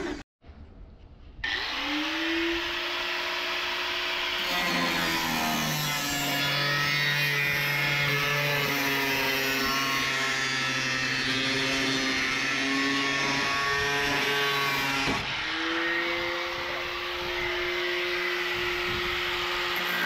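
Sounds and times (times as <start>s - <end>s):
angle grinder cutting steel: 1.4s - 20.0s.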